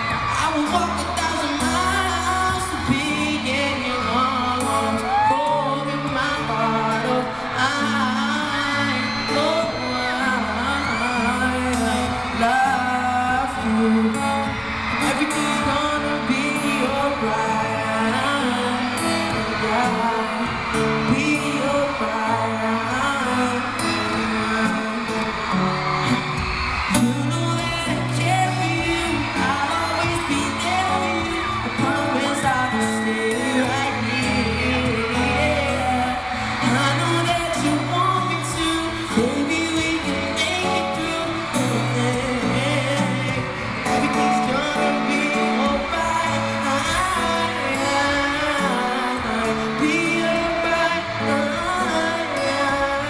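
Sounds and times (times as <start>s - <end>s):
man singing: 0.0s - 26.2s, 26.8s - 53.0s
pop instrumental backing: 0.0s - 53.0s.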